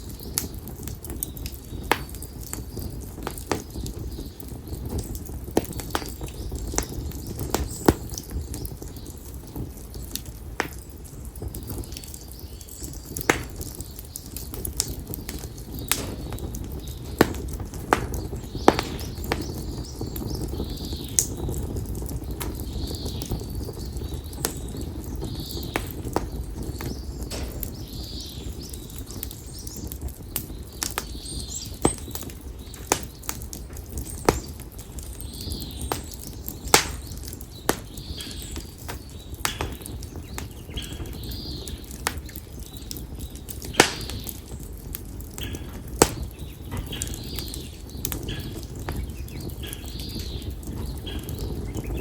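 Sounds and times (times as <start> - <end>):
bonfire crackling and popping: 0.0 - 52.0
low rush of flame: 0.0 - 52.0
birds calling: 0.1 - 52.0.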